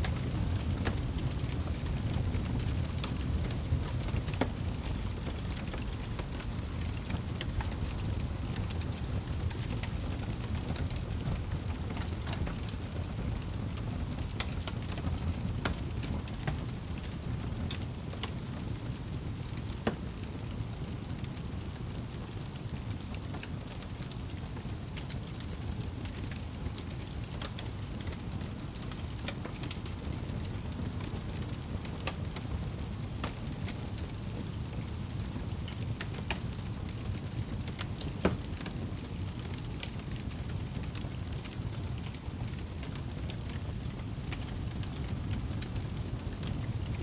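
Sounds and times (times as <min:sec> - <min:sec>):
fire crackling and popping: 0:00.0 - 0:47.0
wood fire rumbling: 0:00.0 - 0:47.0.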